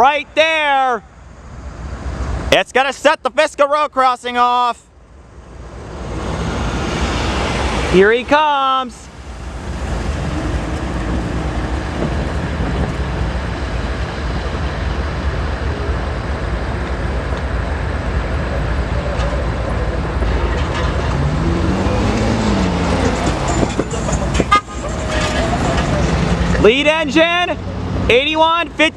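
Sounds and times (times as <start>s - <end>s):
diesel locomotive engine rumbling: 0.0s - 28.9s.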